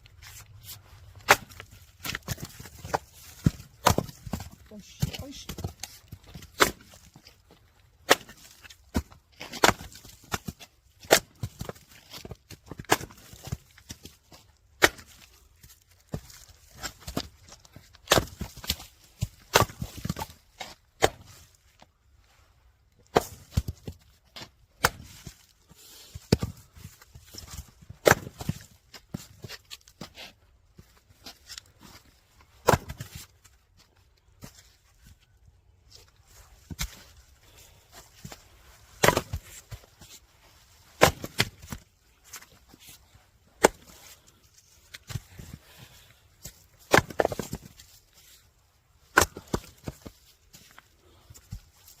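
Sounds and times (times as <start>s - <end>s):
axe splitting firewood: 0.2s - 21.9s, 23.0s - 30.4s, 31.2s - 33.6s, 36.0s - 52.0s.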